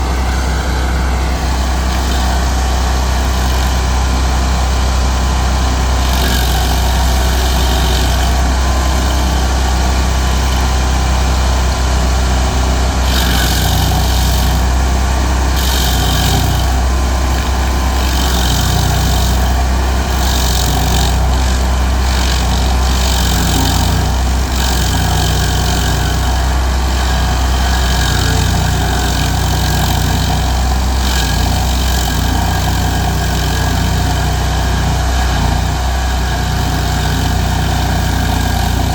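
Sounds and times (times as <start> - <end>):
cutter wheel grinding hiss: 0.0 - 38.9
stump grinder engine running: 0.0 - 38.9.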